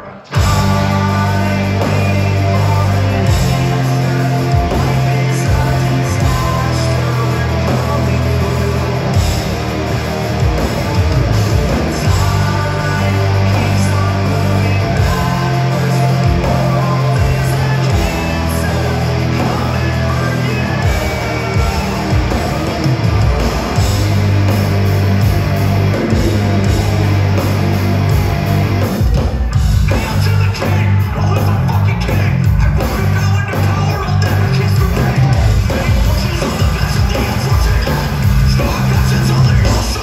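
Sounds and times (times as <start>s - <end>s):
person singing: 0.0s - 9.5s, 11.6s - 24.2s, 29.9s - 40.0s
bass: 0.0s - 40.0s
distorted electric guitars: 0.0s - 40.0s
drums: 0.0s - 40.0s.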